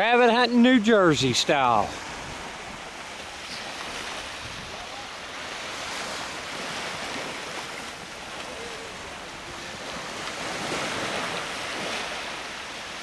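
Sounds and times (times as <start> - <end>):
small waves washing on beach: 0.0 - 13.0
wind rumbling on microphone: 1.9 - 12.6.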